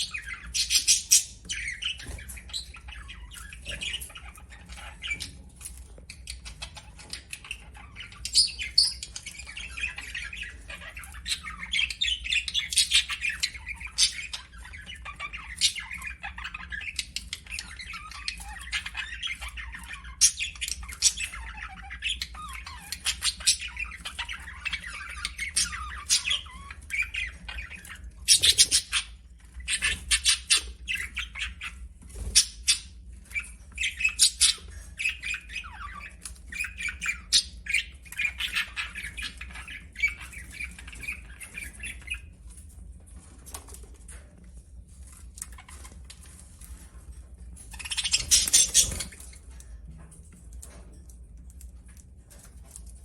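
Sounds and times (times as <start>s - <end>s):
budgerigars chattering: 0.0s - 42.3s, 47.6s - 49.4s.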